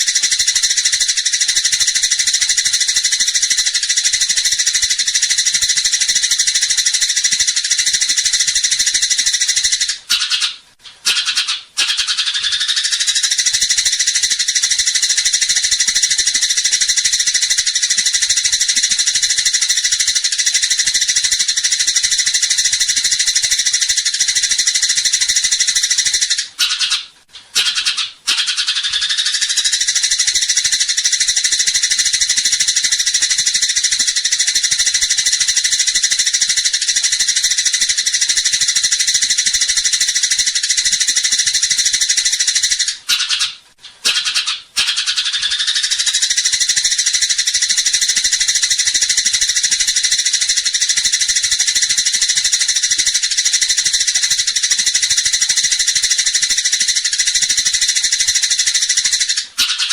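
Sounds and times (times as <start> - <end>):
sparrows chattering: 0.0 - 59.9.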